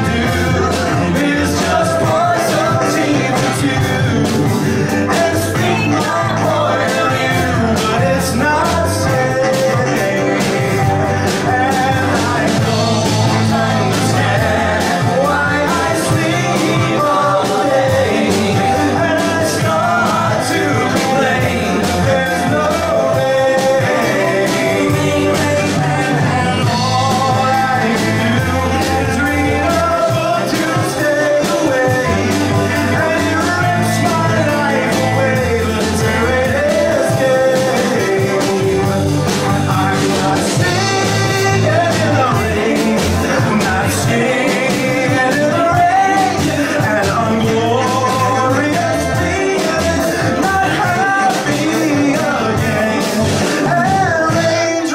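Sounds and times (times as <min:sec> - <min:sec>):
drums: 0:00.0 - 0:54.9
electric bass: 0:00.0 - 0:54.9
man singing into a microphone: 0:00.0 - 0:54.9.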